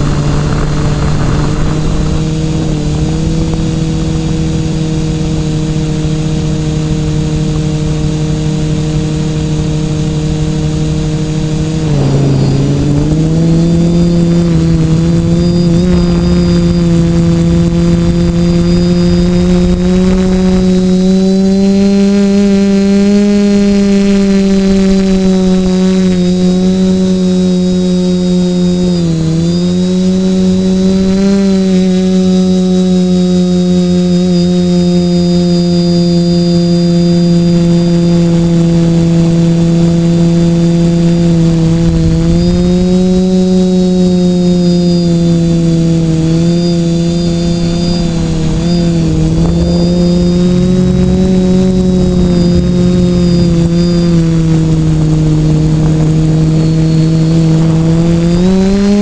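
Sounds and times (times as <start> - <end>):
drone propellers buzzing: 0.0 - 59.0
high whine: 0.0 - 59.0.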